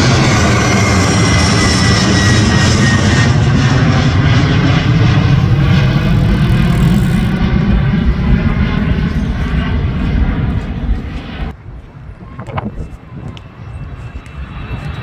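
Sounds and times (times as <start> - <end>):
jet airliner roaring overhead: 0.0 - 15.0.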